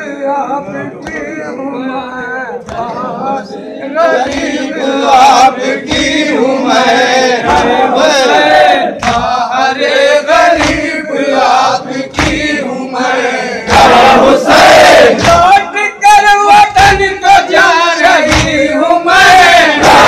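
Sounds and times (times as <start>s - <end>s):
men chanting in unison: 0.0s - 20.0s
crowd shouting: 2.7s - 20.0s.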